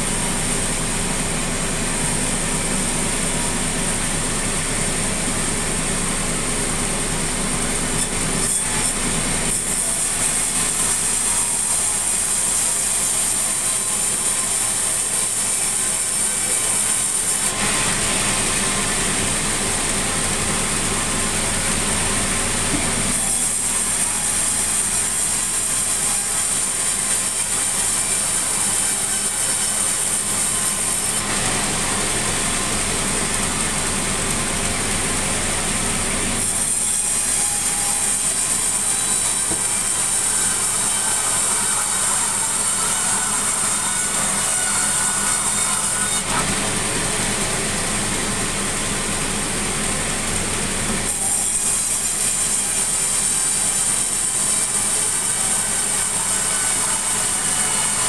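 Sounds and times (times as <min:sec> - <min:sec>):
sawmill saw cutting logs: 0:00.0 - 0:58.0.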